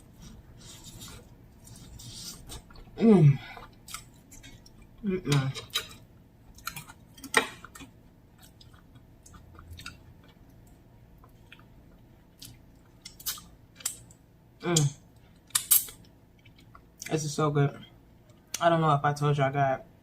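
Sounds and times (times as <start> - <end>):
chewing food: 0.1 - 14.2, 15.2 - 17.1.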